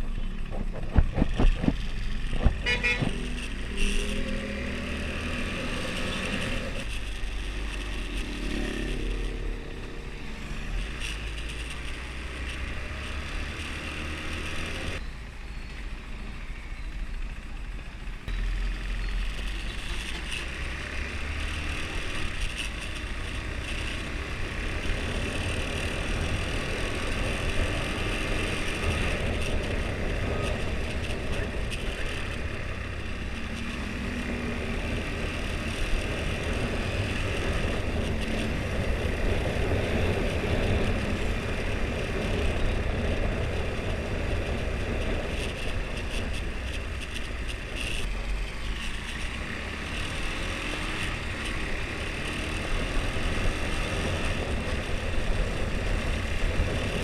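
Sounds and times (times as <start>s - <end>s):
motorcycle engine running: 0.0s - 15.0s, 16.9s - 57.0s
wind and road noise: 0.0s - 57.0s.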